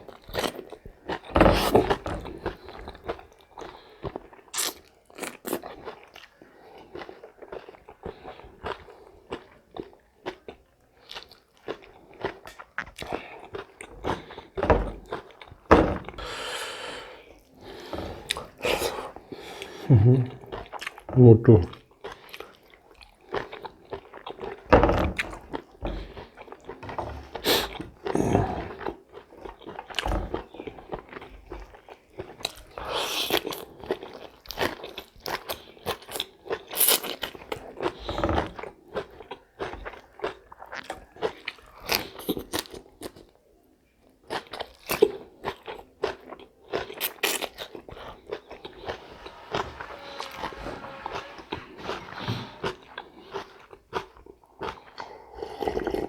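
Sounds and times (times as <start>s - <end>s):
person chewing food: 0.0s - 43.4s, 44.2s - 56.0s.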